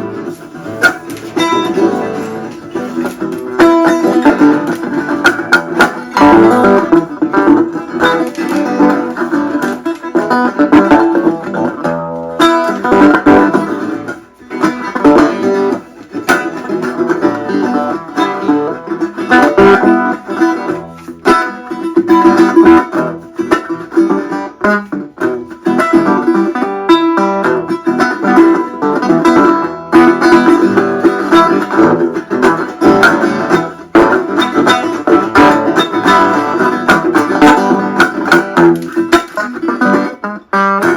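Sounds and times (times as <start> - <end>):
resonator guitar plucked notes: 0.0 - 40.9.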